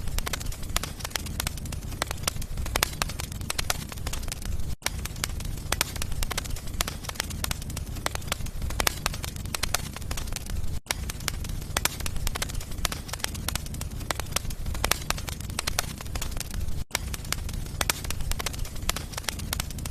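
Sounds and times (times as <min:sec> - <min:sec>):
fire low rumble: 0:00.0 - 0:19.9
wood fire crackling and popping: 0:00.0 - 0:19.9.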